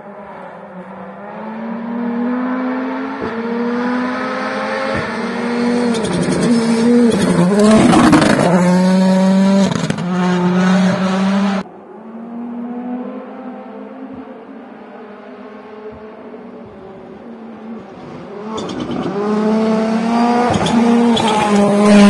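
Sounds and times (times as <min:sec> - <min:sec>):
rally car engine at full throttle: 0:00.0 - 0:22.0.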